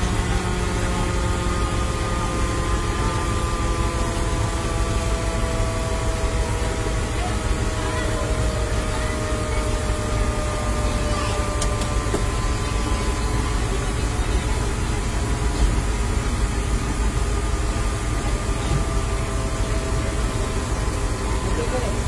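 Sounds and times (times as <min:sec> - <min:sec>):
faint even whine: 0:00.0 - 0:22.0
truck engine idling: 0:00.0 - 0:22.0.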